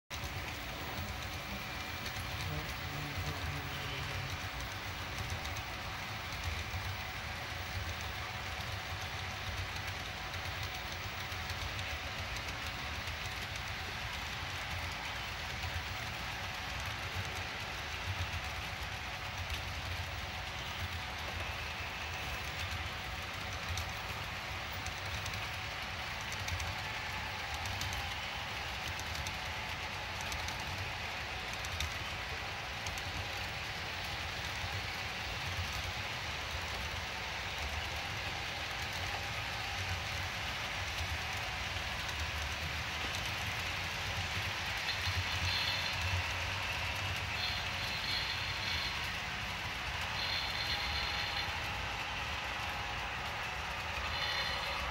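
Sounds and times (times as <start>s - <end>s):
model train wheels rumbling: 0.0s - 54.9s
faint rapid ticking: 0.1s - 54.9s.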